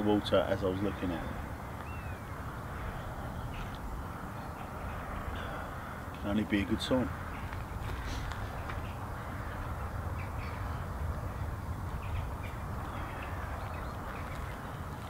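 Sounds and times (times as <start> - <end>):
bird calls: 0.0 - 15.0
crows cawing: 0.0 - 15.0.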